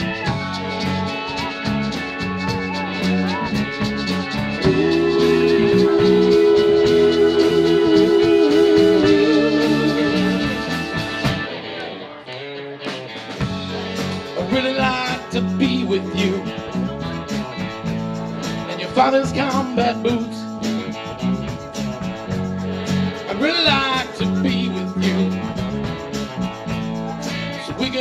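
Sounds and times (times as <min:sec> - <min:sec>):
drum kit beat: 0:00.0 - 0:11.6, 0:12.9 - 0:28.0
electric bass: 0:00.0 - 0:12.0, 0:12.8 - 0:28.0
guitar: 0:00.0 - 0:28.0
keyboard: 0:00.0 - 0:28.0.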